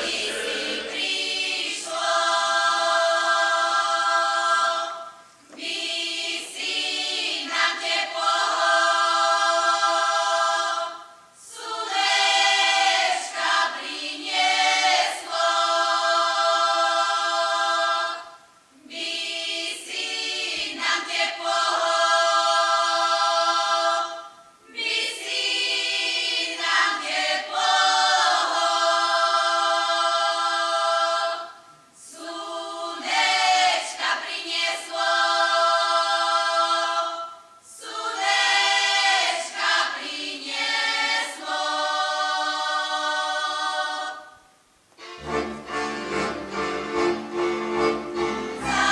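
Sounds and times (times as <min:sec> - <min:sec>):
women's choir singing a cappella: 0:00.0 - 0:48.9.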